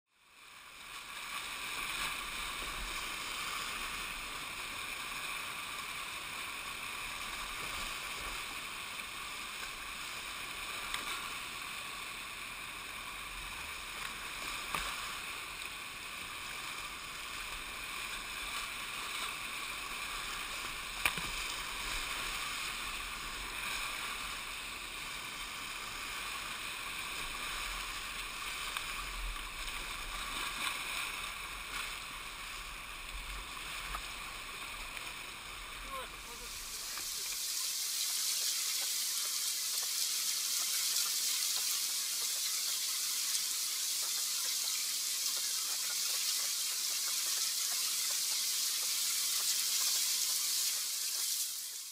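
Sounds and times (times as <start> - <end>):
rushing whitewater river: 0.4 - 51.9.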